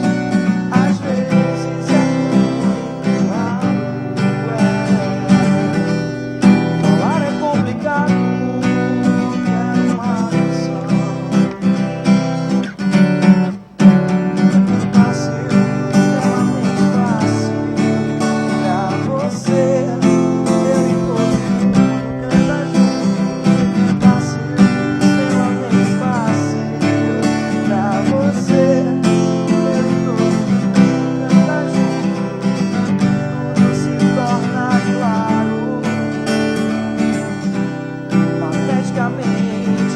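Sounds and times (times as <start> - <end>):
strummed acoustic guitar music: 0.0 - 39.9.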